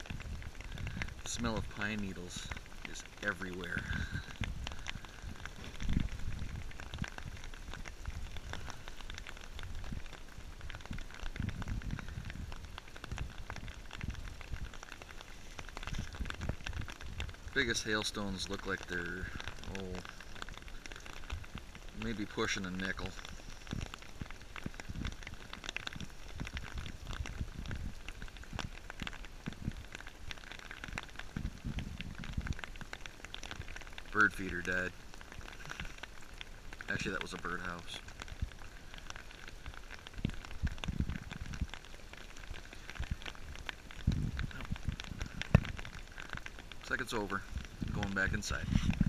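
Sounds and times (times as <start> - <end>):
hail and rain pelting: 0.0 - 49.0.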